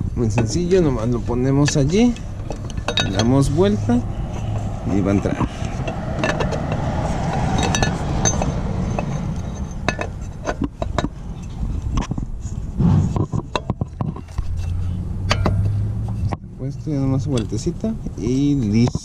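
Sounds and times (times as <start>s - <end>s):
metal pipe clinks and scrapes: 0.0s - 19.0s.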